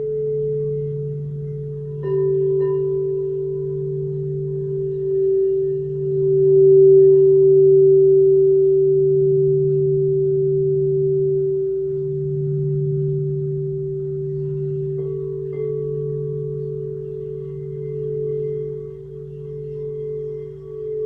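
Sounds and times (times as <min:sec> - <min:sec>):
higher singing bowl tone: 0:00.0 - 0:21.0
low singing bowl tone: 0:00.0 - 0:21.0.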